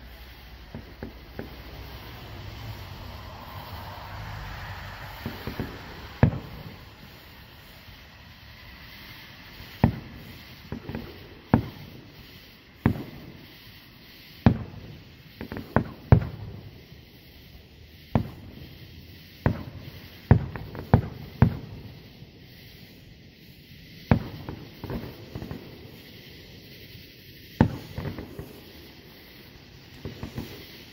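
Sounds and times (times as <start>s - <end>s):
fireworks bursting with sharp bangs: 0.0s - 30.9s.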